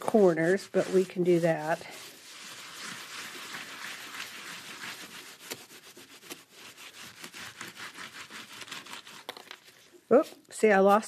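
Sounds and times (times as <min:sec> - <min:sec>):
paper towel rubbing on glass: 0:00.0 - 0:09.3.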